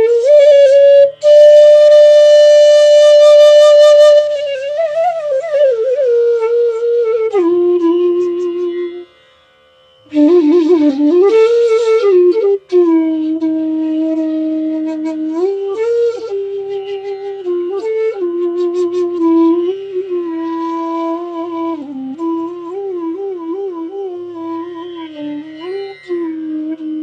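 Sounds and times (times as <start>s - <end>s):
bamboo flute melody: 0.0s - 9.4s, 10.0s - 27.0s.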